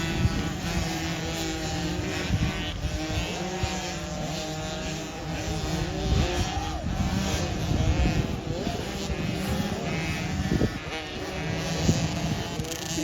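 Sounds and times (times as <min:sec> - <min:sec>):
dirt bike engines racing: 0:00.0 - 0:13.0.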